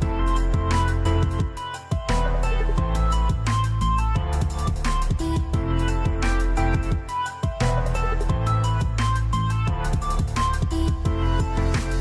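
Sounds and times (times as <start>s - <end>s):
electronic music with bass: 0.0s - 12.0s.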